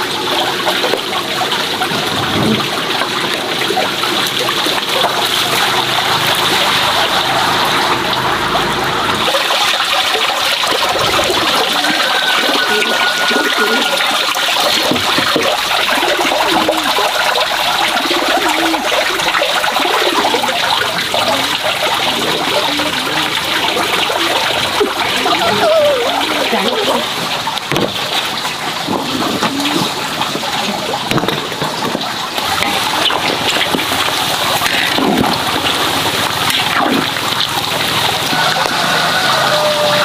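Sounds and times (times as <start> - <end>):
water running into plastic basin: 0.0 - 40.0.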